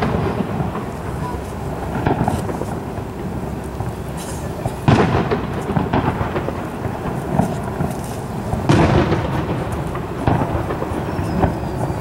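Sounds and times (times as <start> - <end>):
fireworks booming: 0.0 - 12.0
sharp fireworks reports: 0.0 - 12.0.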